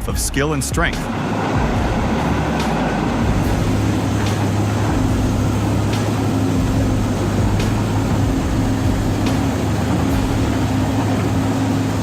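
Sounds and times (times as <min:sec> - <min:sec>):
heavy vehicle engine humming: 0:00.0 - 0:12.0.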